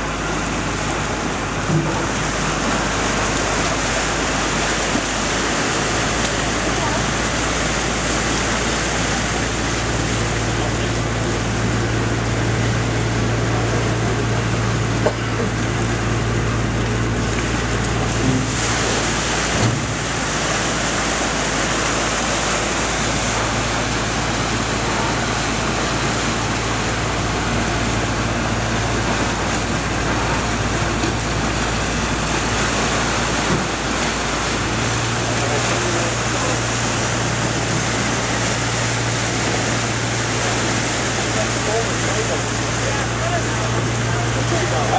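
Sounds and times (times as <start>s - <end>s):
boat diesel engine droning: 0.0s - 44.9s
water rushing along hull: 0.0s - 44.9s.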